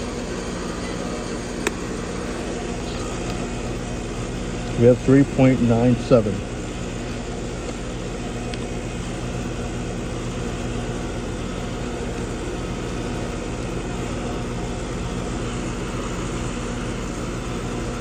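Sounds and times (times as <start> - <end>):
heat pump unit humming: 0.0 - 18.0.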